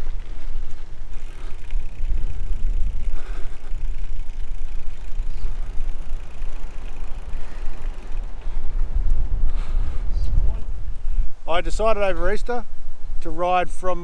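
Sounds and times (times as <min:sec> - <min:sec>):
bike rolling noise: 0:00.0 - 0:13.4
wind buffeting microphone: 0:00.0 - 0:14.0.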